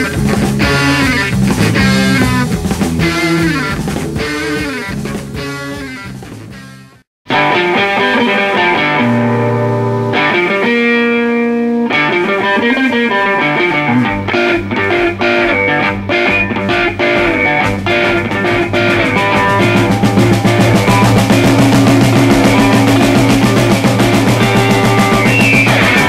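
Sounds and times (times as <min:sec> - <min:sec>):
bass guitar: 0:00.0 - 0:26.0
rock guitar playing: 0:00.0 - 0:26.0.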